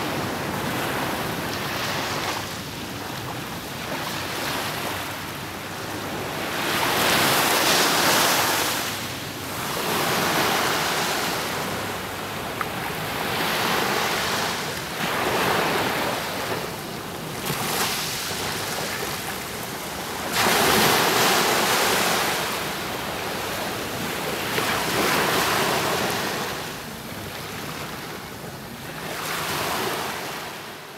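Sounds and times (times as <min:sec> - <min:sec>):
waves breaking on shore: 0:00.0 - 0:28.1.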